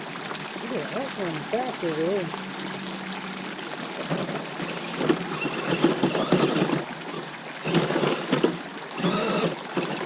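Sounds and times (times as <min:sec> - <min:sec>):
water splashing and rushing: 0:00.0 - 0:10.0.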